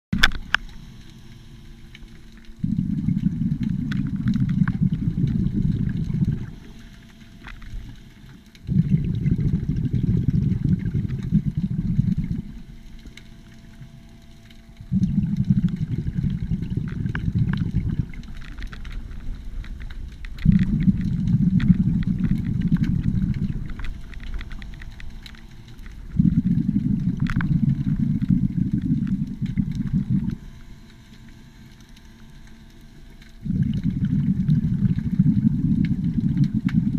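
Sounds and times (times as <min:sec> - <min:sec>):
exhaled breath bubbling underwater: 0:00.4 - 0:31.6, 0:32.8 - 0:36.9.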